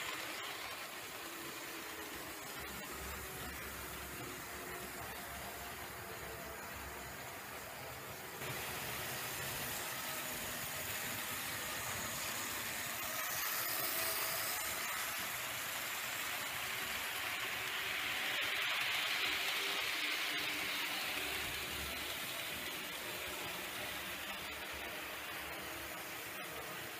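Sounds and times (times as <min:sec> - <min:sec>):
model train wheels on rail: 0:00.0 - 0:26.9.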